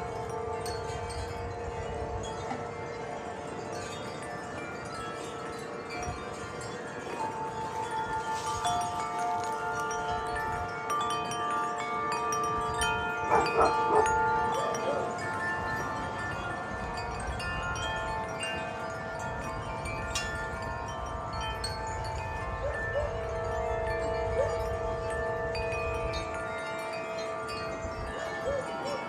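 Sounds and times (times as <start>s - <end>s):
low rush of wind: 0.0s - 29.0s
wind chimes ringing: 0.0s - 29.0s.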